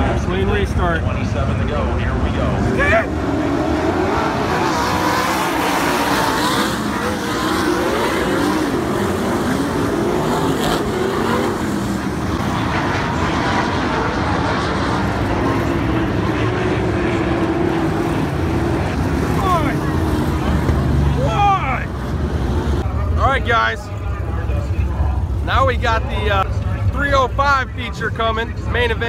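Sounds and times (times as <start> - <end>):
racing car engines passing: 0.0 - 29.0.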